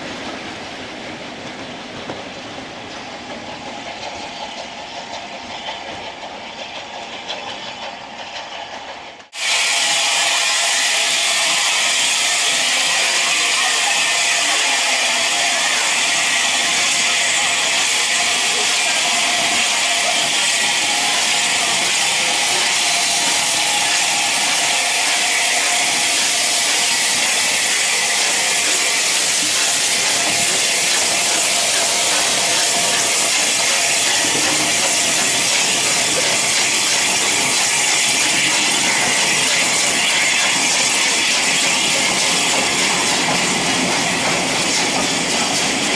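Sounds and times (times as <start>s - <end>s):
steam hissing: 0.0s - 45.9s
train running on rails: 0.0s - 45.9s.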